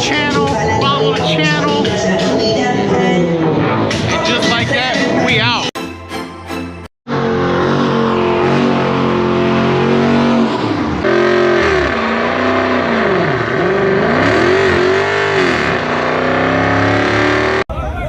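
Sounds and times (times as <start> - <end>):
car engine revving: 0.0 - 5.7, 7.1 - 17.7.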